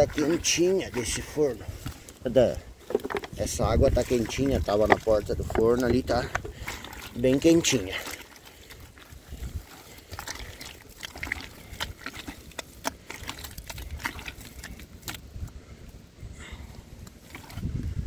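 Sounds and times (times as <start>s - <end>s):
wet clay squelching and slapping: 0.0s - 15.3s, 17.0s - 18.0s.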